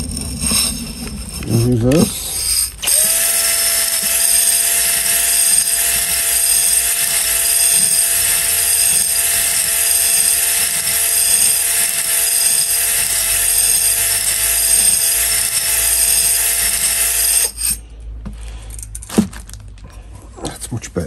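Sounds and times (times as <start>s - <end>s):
cordless drill running: 0.0s - 17.8s.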